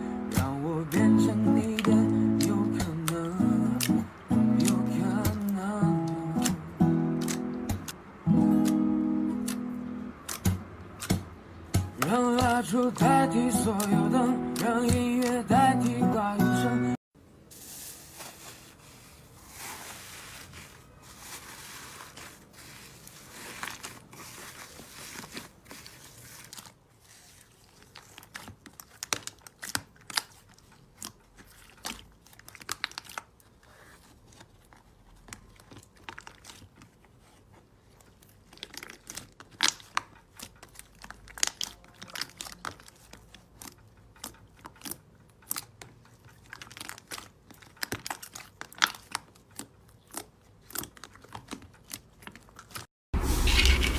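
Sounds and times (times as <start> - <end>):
slime squelching: 0.0 - 16.0, 17.6 - 53.9.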